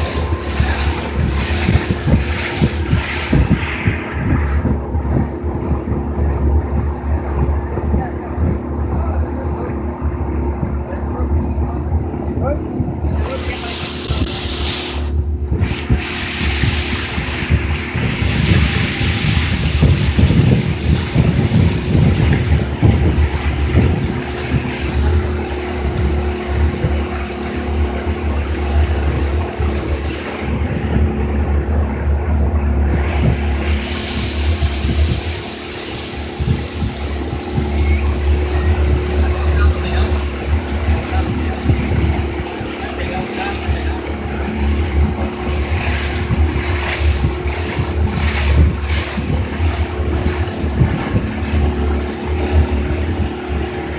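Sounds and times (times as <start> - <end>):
motorboat engine running: 0.0 - 53.9
water rushing along hull: 0.0 - 53.9
wind buffeting microphone: 0.0 - 53.9.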